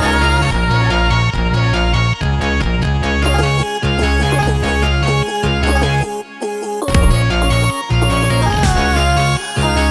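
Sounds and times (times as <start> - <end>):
background music with bass: 0.0 - 6.2, 6.9 - 9.9.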